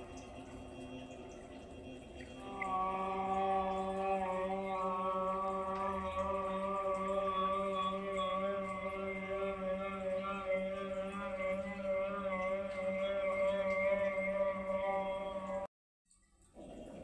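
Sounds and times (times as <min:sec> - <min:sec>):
person chanting a long steady note: 0:00.0 - 0:15.7.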